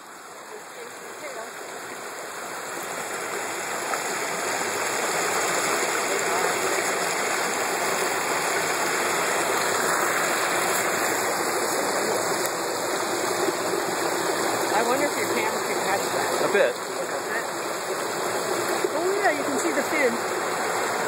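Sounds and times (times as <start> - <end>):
river water rushing over stones: 0.0 - 21.0.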